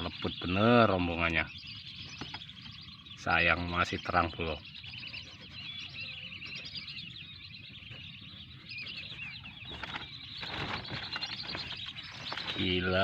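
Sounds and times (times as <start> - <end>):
whistling ducks calling: 0.0 - 13.0.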